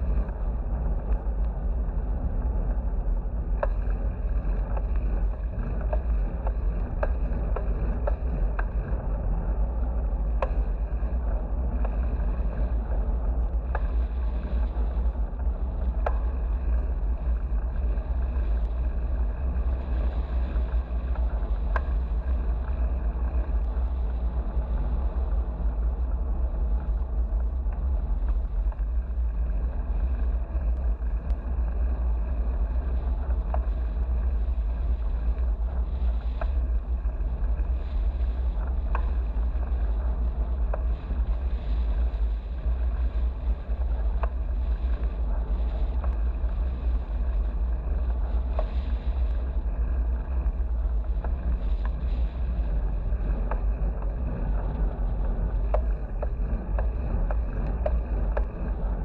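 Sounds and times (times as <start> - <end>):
tyre and road noise: 0.0 - 59.0
wind rumble on microphone: 0.0 - 59.0
faint ticks: 3.4 - 59.0.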